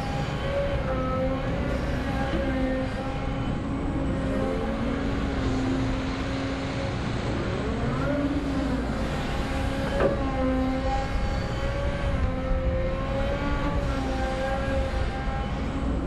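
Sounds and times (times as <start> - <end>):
hydraulic whine: 0.0 - 16.0.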